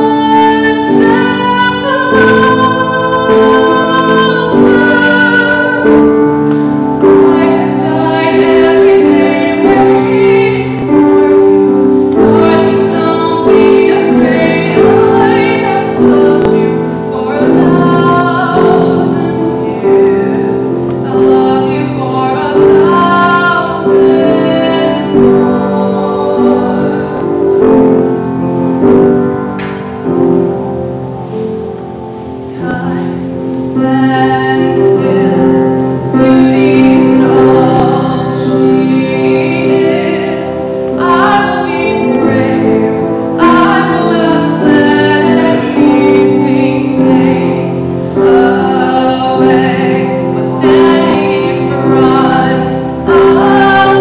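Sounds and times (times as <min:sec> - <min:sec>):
woman singing slow song: 0:00.0 - 0:31.7, 0:32.4 - 0:54.0.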